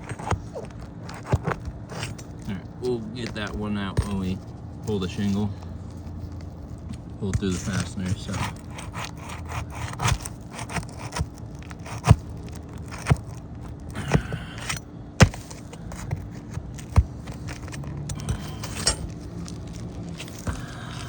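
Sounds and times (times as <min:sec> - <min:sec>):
tool scraping shingle: 0:00.0 - 0:21.0.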